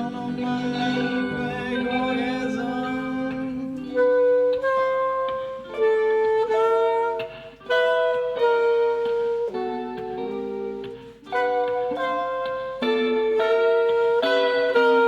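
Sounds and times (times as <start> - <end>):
acoustic guitar accompaniment: 0.0 - 15.0
saxophone melody: 0.0 - 15.0.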